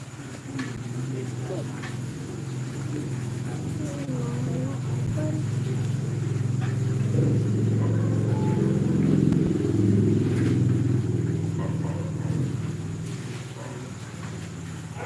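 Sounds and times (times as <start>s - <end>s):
motor vehicle engine humming: 0.0s - 15.0s.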